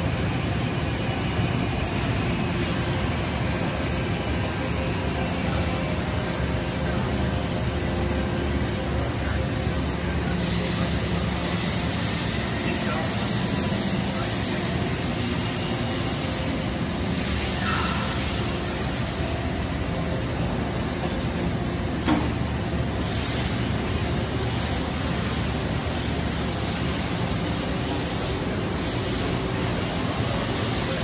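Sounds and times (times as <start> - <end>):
industrial machine hum and hiss: 0.0 - 31.0.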